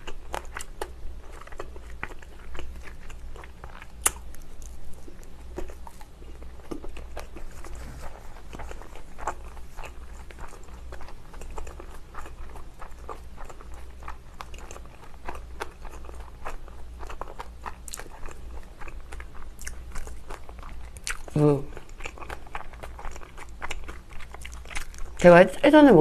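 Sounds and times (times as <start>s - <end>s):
person chewing: 0.0s - 25.2s.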